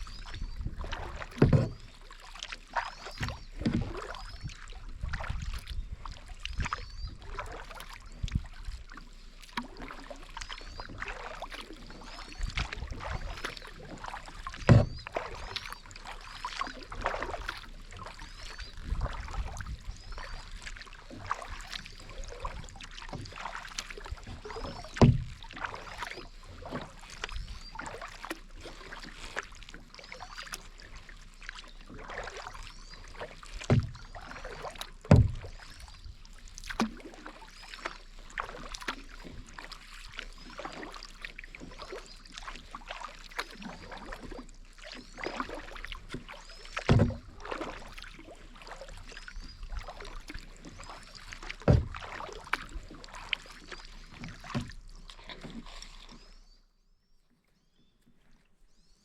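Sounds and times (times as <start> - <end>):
paddle knocking kayak: 0.0 - 56.3
paddle swishing through water: 0.0 - 59.0.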